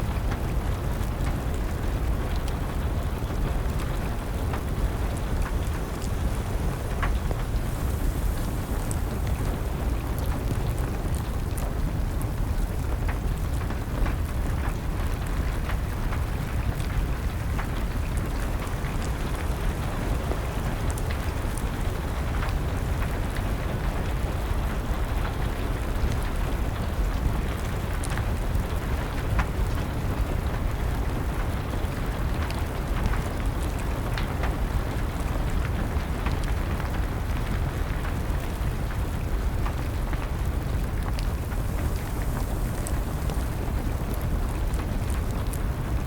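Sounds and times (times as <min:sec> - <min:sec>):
steady rain: 0:00.0 - 0:46.0
wood fire crackling: 0:00.1 - 0:46.0.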